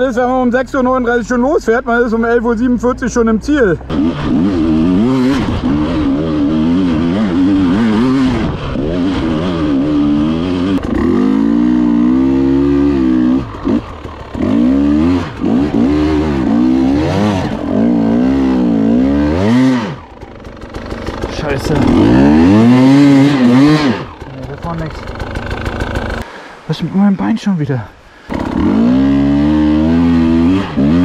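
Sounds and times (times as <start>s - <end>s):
two-stroke motorcycle revving: 0.0s - 26.3s, 28.2s - 31.0s.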